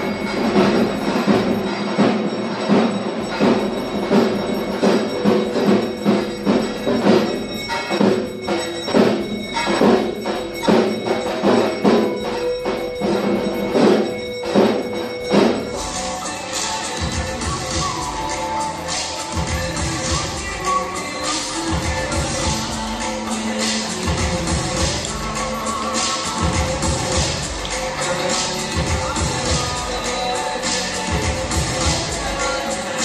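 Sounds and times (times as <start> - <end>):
bell-like ringing tones: 0.0 - 33.0
struck percussion beat: 0.0 - 33.0.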